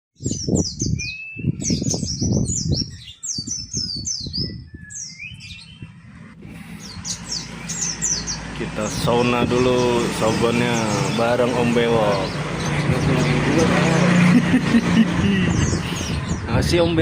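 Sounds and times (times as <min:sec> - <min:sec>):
songbird chirping: 0:00.2 - 0:17.0.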